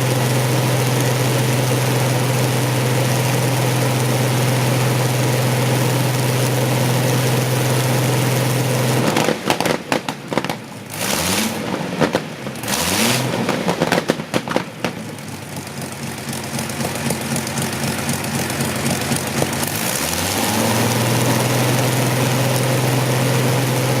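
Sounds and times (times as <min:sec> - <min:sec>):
aero engine running: 0:00.0 - 0:24.0
engine popping: 0:00.0 - 0:24.0.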